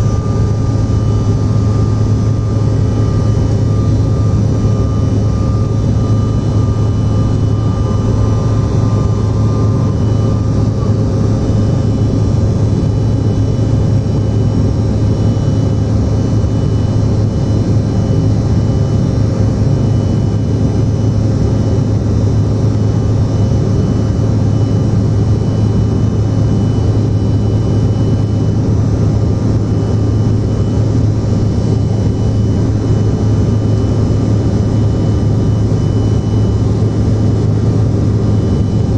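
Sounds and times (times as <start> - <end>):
faint steady whines: 0.0 - 38.9
jet cabin drone: 0.0 - 38.9.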